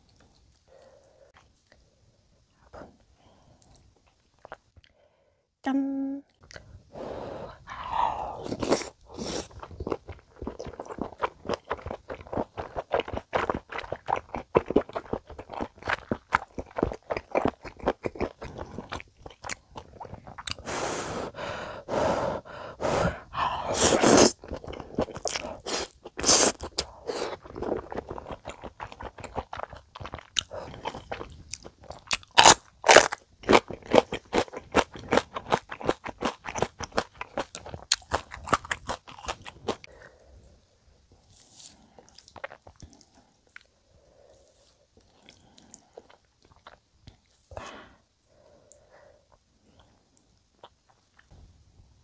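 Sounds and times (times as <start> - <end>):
close-miked chewing: 3.6 - 5.0, 7.6 - 21.4, 23.2 - 47.6, 48.6 - 51.4.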